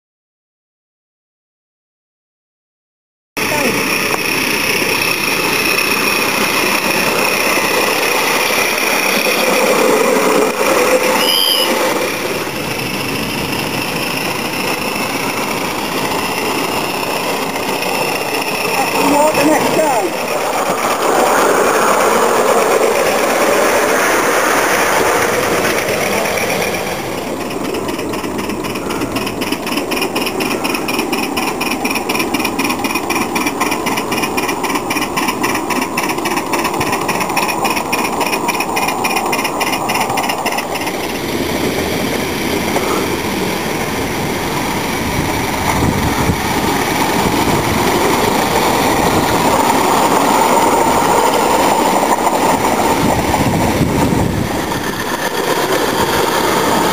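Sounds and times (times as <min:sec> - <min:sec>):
steam locomotive and wheels on rail: 0:03.4 - 0:56.9.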